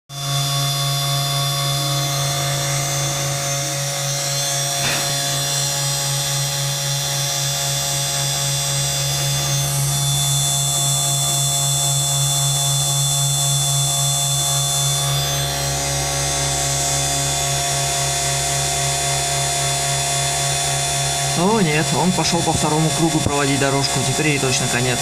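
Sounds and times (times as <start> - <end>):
router spindle motor humming and whining: 0.1 - 25.0.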